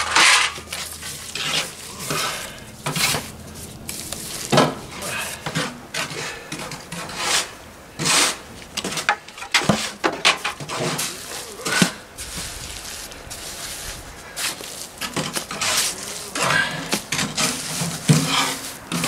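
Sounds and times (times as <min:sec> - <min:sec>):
trowel scraping wet mortar: 0:00.0 - 0:12.4, 0:13.5 - 0:19.0.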